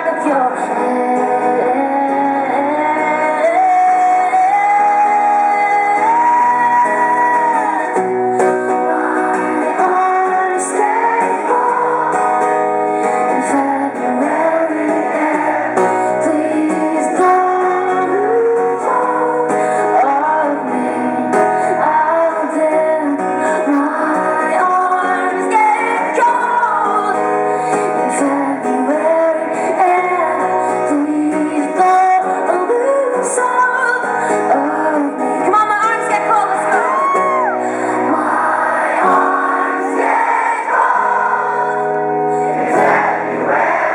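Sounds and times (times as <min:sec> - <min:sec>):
woman singing: 0:00.0 - 0:40.0
strummed acoustic guitar: 0:00.0 - 0:43.9.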